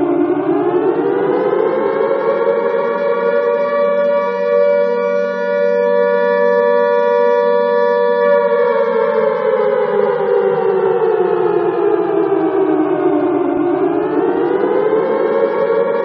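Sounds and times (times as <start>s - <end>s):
alarm siren wailing: 0.0s - 16.0s.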